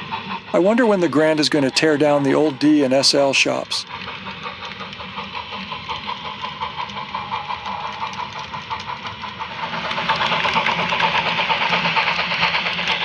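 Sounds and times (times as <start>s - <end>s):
model steam locomotive chuffing: 0.0s - 13.0s.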